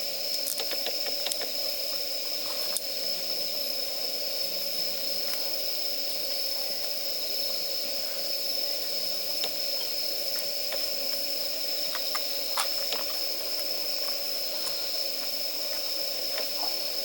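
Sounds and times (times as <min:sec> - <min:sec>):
campfire hissing: 0:00.0 - 0:17.0.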